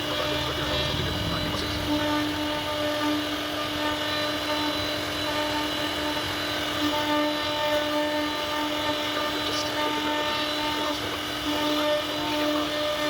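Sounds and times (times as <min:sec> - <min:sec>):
router spindle whining: 0:00.0 - 0:13.0.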